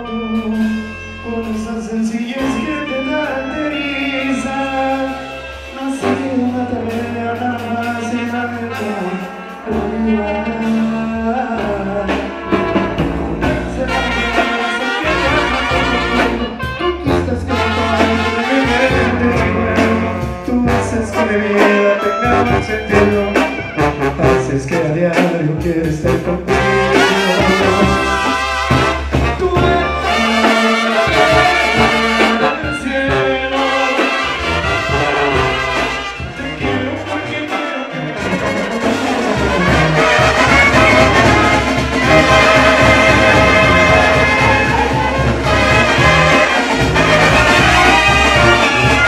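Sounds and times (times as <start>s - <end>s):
man singing into a microphone: 0.0s - 28.6s, 29.2s - 38.6s, 39.4s - 46.4s
brass band playing: 0.0s - 49.0s.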